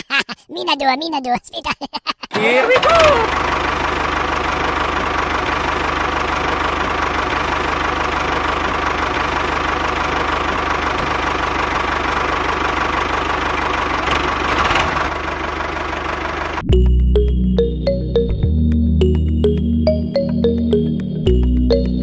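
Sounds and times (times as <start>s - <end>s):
diesel engine chugging: 2.4s - 22.0s.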